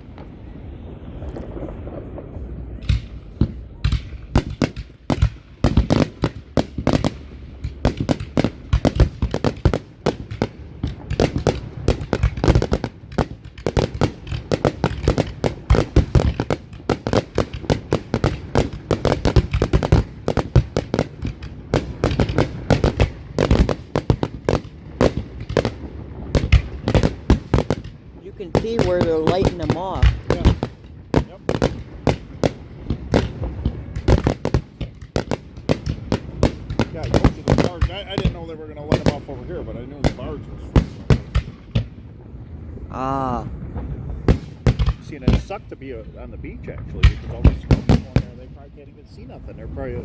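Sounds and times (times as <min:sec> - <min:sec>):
aerial fireworks bangs: 0:00.0 - 0:42.2, 0:43.6 - 0:46.0, 0:46.6 - 0:48.7.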